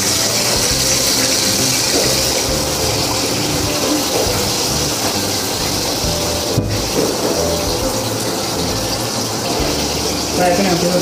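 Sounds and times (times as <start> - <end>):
chicken frying in deep fryer: 0.0 - 11.0.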